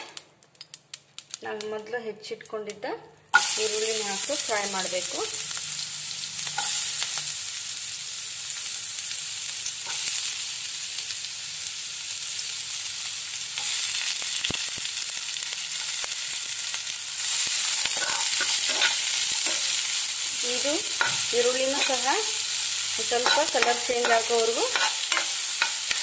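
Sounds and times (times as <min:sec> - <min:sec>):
onions sizzling in oil: 0:03.3 - 0:26.0.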